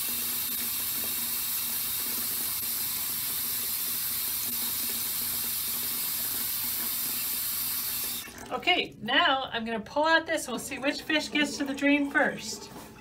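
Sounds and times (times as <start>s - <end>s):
faucet running into basin: 0.0s - 9.0s, 10.4s - 13.0s.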